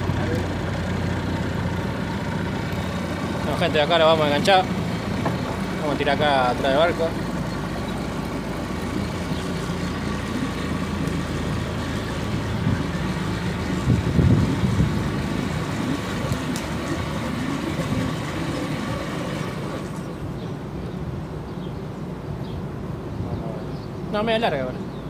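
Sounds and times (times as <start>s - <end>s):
engine hum: 0.0s - 25.0s.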